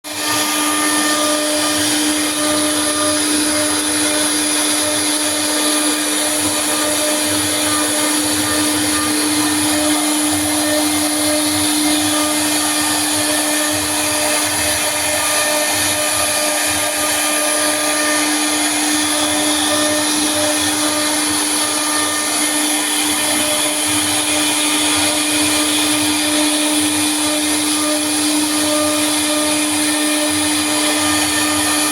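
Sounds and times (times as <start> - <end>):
router spindle motor whine: 0.0 - 31.9.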